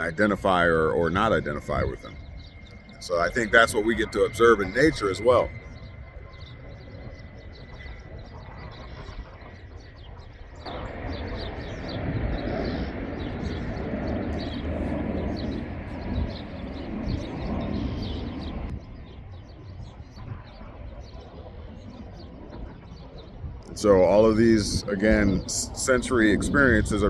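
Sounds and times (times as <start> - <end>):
birds chirping: 0.0 - 27.0
steady rushing noise: 0.0 - 27.0.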